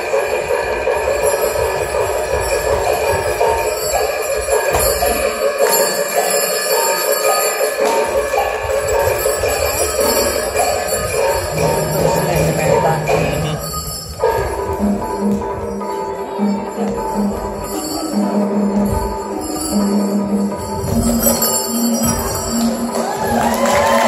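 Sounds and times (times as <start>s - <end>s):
drum beat: 0.0s - 5.8s, 7.8s - 24.0s
jingling metallic percussion: 0.0s - 24.0s.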